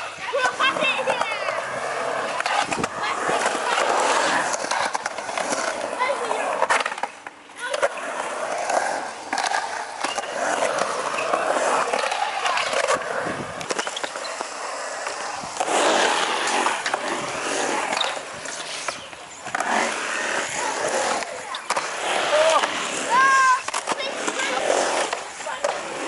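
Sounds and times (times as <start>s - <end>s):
skateboard clacks: 0.0s - 26.0s
skateboard wheels rolling on concrete: 0.0s - 26.0s.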